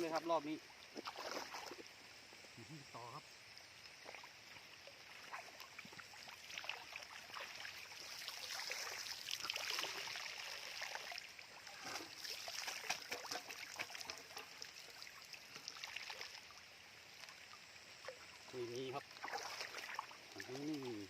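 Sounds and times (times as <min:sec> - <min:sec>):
shallow water splashing: 0:00.0 - 0:02.1, 0:03.8 - 0:21.0.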